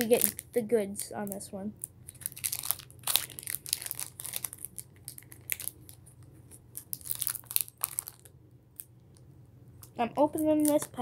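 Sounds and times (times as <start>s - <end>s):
foil wrapper crinkling and tearing: 0.0s - 8.9s, 9.8s - 11.0s.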